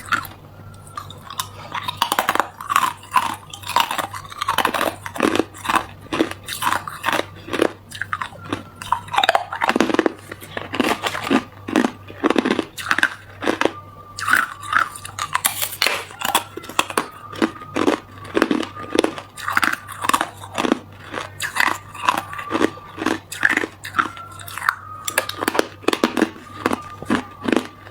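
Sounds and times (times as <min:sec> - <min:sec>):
person crunching ice: 0:00.9 - 0:27.9.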